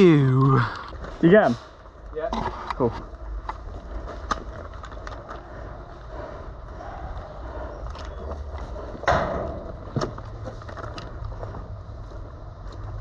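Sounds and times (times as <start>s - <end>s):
low rumble of movement: 0.4s - 13.0s.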